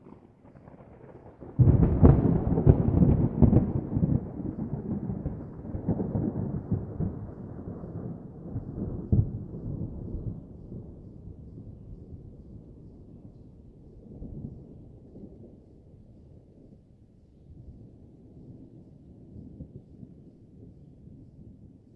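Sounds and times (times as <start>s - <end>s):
thunder cracking and rumbling: 0.0s - 21.9s.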